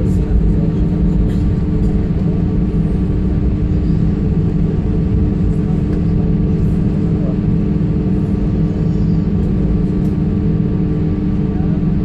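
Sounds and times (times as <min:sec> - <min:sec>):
jet engines droning: 0:00.0 - 0:12.0.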